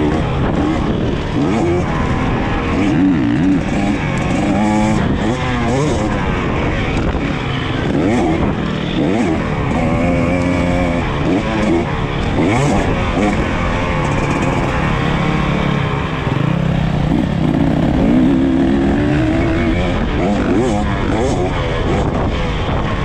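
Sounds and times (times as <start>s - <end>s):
two-stroke engine revving: 0.0s - 23.0s.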